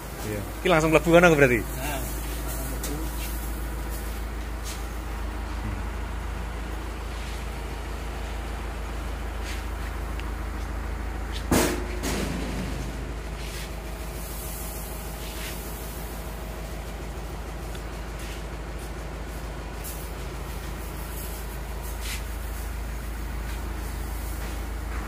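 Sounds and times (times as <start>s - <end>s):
rice mill machinery drone: 0.0s - 25.0s.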